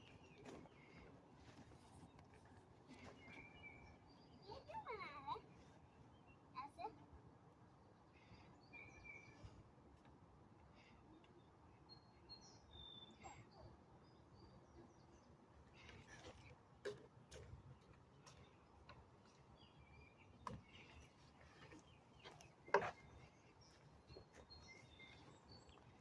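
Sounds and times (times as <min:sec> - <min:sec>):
faint bird chirps: 0:00.0 - 0:07.0, 0:08.0 - 0:09.7, 0:10.7 - 0:16.6, 0:19.6 - 0:26.0.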